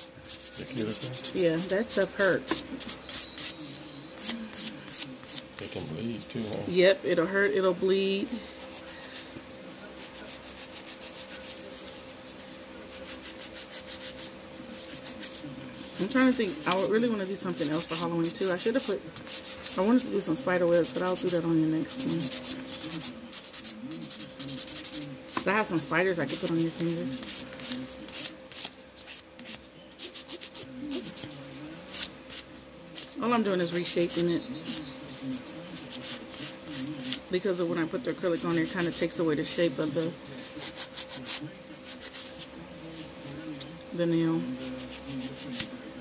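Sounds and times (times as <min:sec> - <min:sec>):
nail file rubbing on nail: 0:00.0 - 0:05.9, 0:08.4 - 0:09.3, 0:10.0 - 0:37.2, 0:38.0 - 0:43.1, 0:44.6 - 0:45.7.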